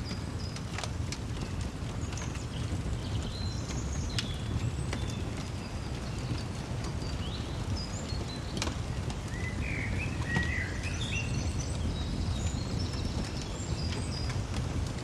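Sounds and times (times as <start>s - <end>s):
small birds chirping: 2.0s - 14.8s.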